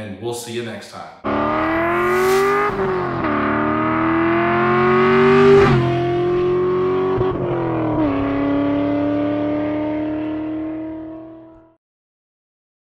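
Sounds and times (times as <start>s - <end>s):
car engine running hard: 1.2s - 11.7s.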